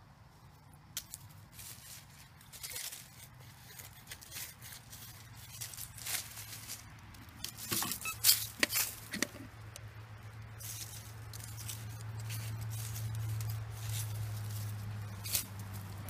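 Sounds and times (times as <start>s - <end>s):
dry leaves crackling: 0.3s - 16.0s.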